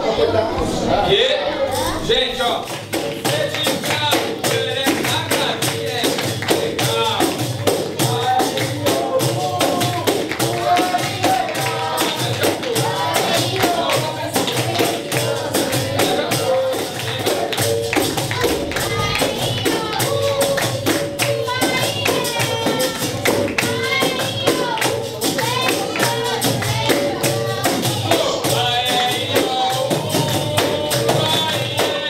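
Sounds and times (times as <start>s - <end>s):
people singing: 0.0s - 32.0s
tambourine rhythm: 2.5s - 32.0s.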